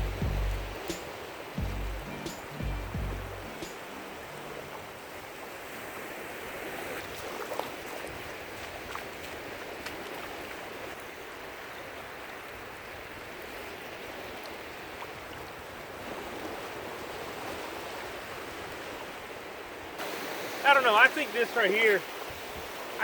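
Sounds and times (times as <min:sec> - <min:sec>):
surf washing on beach: 0:00.0 - 0:02.7, 0:03.4 - 0:23.0.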